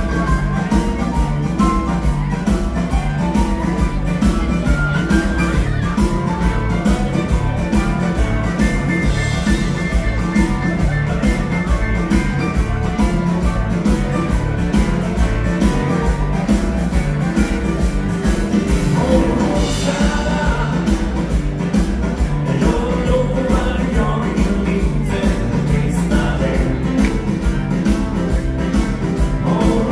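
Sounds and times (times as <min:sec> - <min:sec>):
live dance band playing: 0:00.0 - 0:29.9.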